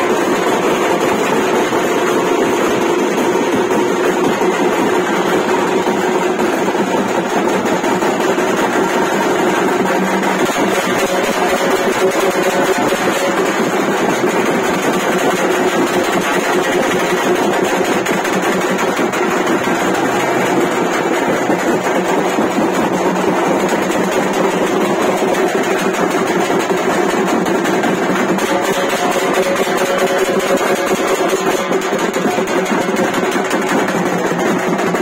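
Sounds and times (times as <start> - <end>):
frame drums beaten with sticks: 0.0 - 35.0.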